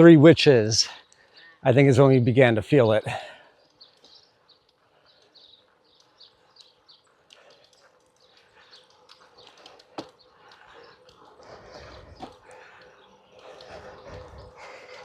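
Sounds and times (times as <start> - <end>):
outdoor noise: 0.0 - 15.0
faint bird chirping: 0.7 - 15.0.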